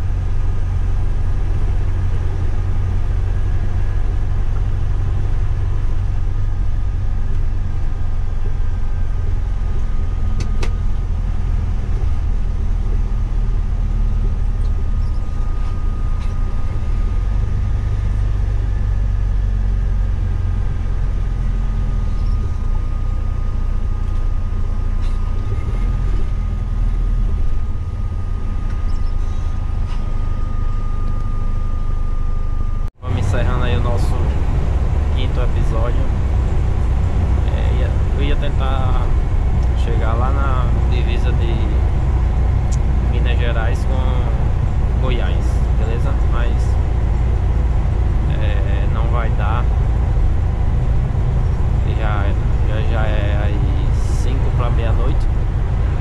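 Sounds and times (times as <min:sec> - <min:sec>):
coach engine and road rumble: 0:00.0 - 0:56.0
thin steady whine: 0:00.0 - 0:56.0.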